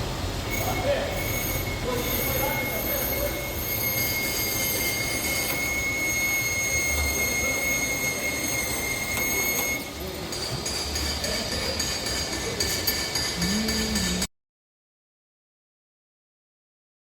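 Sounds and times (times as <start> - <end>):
high-pitched bearing squeal: 0.5 - 14.3.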